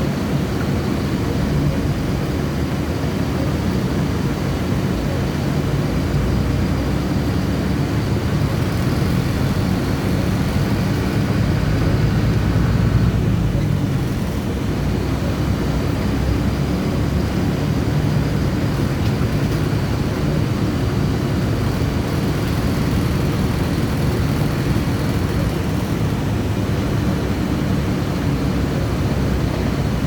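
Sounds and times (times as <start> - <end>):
bus engine and road drone: 0.0 - 30.0.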